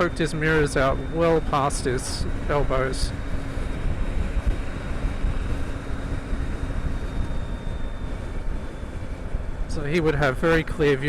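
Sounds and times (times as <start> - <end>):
faint high whine: 0.0 - 11.0
wind and road noise: 0.0 - 11.0.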